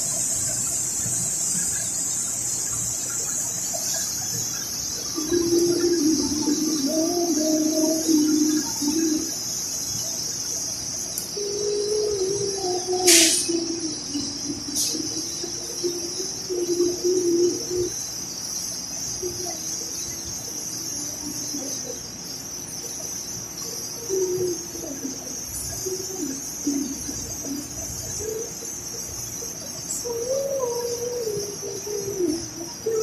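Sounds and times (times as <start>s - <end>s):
high-pitched hiss: 0.0s - 33.0s
low wavering bird calls: 0.0s - 33.0s.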